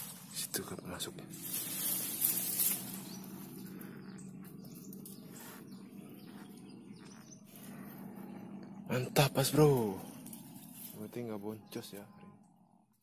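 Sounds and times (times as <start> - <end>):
insects droning: 0.0 - 13.0
faint bird chirps: 1.8 - 13.0.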